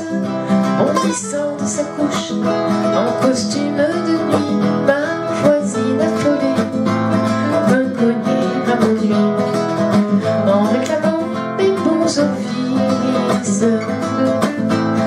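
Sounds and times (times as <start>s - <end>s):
acoustic guitars strumming rumba: 0.0s - 15.0s.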